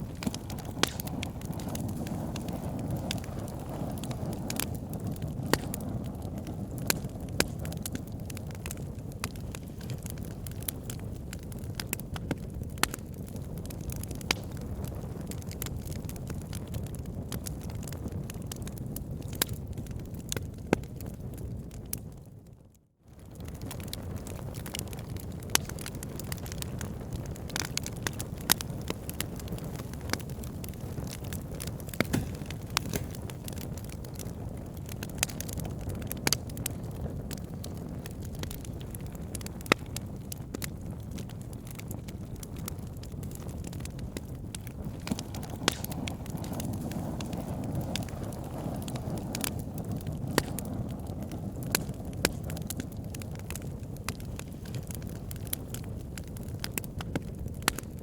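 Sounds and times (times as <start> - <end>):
flames rumbling: 0.0 - 22.5, 23.1 - 58.0
logs crackling and popping: 0.0 - 22.5, 23.1 - 58.0.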